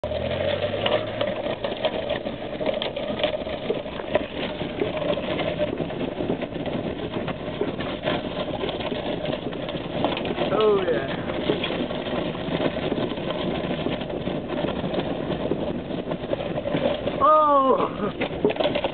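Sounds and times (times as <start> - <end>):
gravel crackling: 0.0 - 18.9
rattles: 0.0 - 18.9
vehicle engine running: 0.0 - 18.9.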